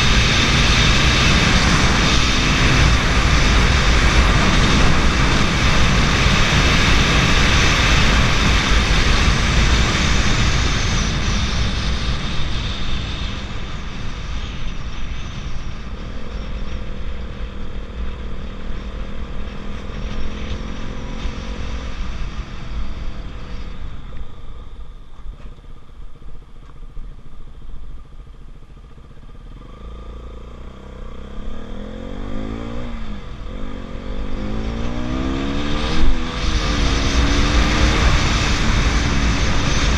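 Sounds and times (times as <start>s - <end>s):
loud rushing noise: 0.0s - 24.8s, 31.0s - 39.9s
motorcycle engine running: 0.0s - 39.9s.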